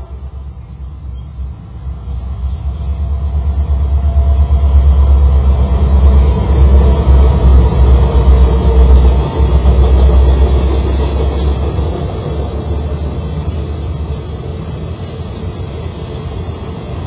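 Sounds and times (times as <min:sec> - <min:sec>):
diesel locomotives rumbling: 0:00.0 - 0:17.0
train wheels rolling: 0:00.0 - 0:17.0.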